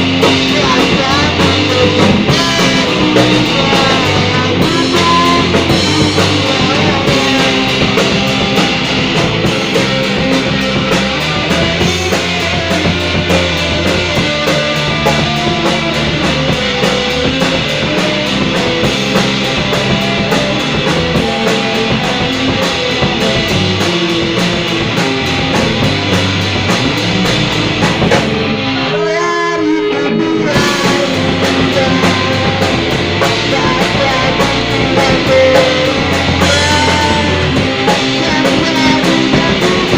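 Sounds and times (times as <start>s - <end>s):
rock band music with guitar: 0.0s - 39.9s.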